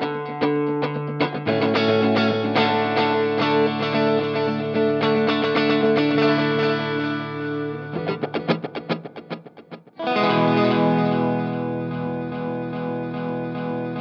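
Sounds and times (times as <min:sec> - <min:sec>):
electric guitar with echoing delay: 0:00.0 - 0:14.0.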